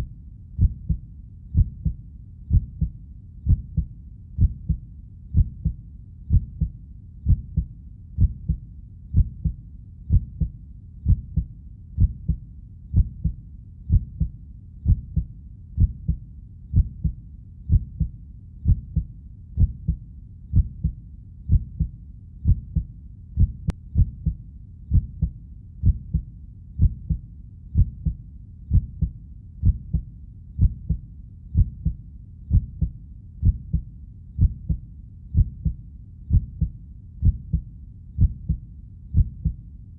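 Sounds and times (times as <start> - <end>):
heartbeat thumping: 0.6 - 39.6.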